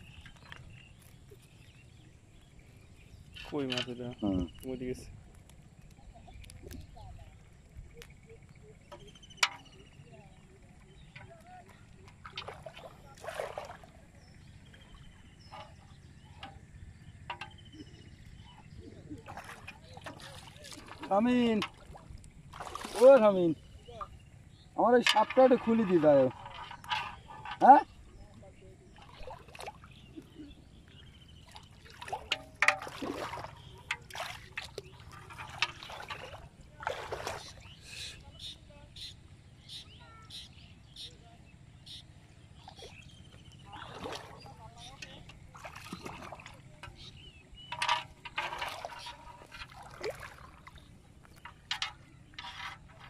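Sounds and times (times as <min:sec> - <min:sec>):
small water splashes: 0:00.0 - 0:39.1, 0:41.9 - 0:53.0.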